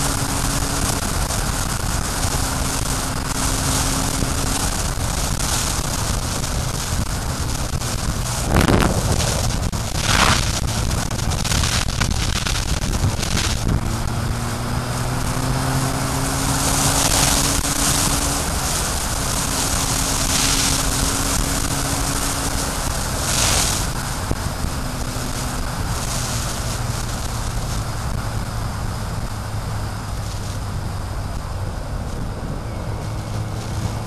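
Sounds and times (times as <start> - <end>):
road noise: 0.0 - 34.0
vehicle engine running: 0.0 - 34.0
wind noise on microphone: 0.0 - 34.0.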